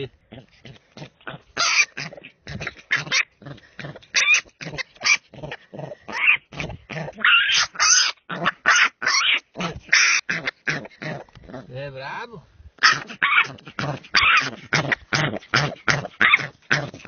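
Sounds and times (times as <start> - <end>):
piglet squealing: 1.2 - 11.7, 12.8 - 17.0.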